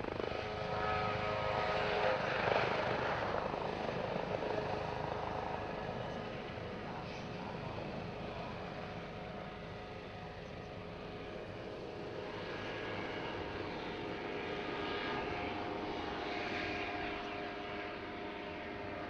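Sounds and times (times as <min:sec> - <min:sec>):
helicopter rotor noise: 0:00.0 - 0:19.0
turbine engine whine: 0:00.0 - 0:19.0.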